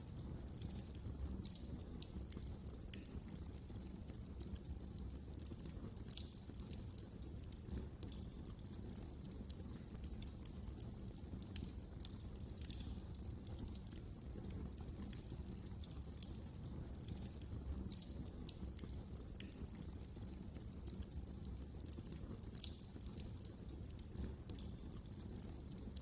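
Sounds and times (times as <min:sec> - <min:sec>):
fire crackling and popping: 0:00.0 - 0:26.0
low rumble of burning fire: 0:00.0 - 0:26.0.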